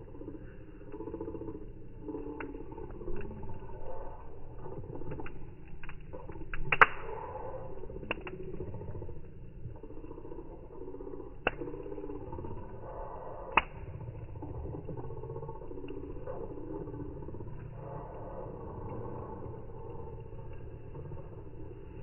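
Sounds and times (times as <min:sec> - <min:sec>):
bonfire crackling and popping: 0:00.0 - 0:22.0
low muffled rumble: 0:00.0 - 0:22.0.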